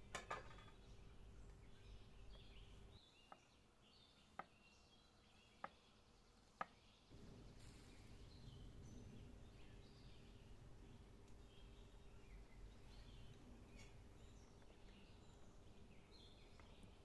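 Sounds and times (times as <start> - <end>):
birds chirping faintly: 0.0 - 17.0
low steady outdoor hum: 0.0 - 17.0.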